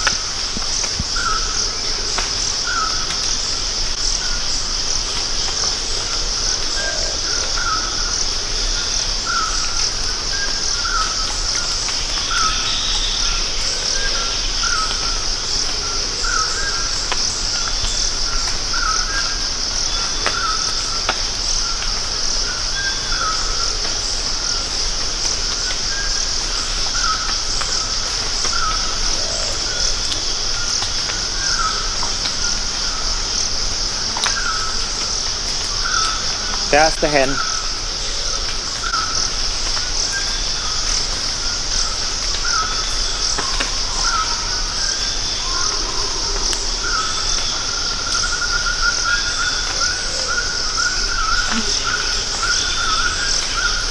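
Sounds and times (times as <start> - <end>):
rainforest insects chorus: 0.0 - 53.9.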